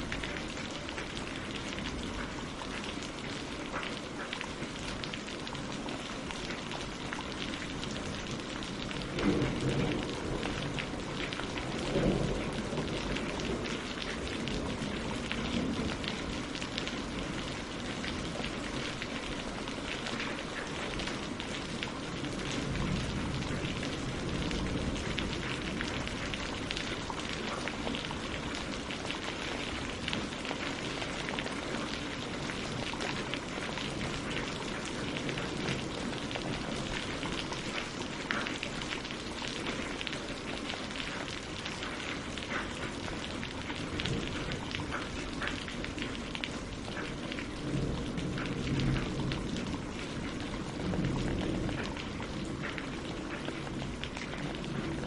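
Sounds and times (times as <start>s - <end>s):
rain on water and leaves: 0.0s - 55.0s.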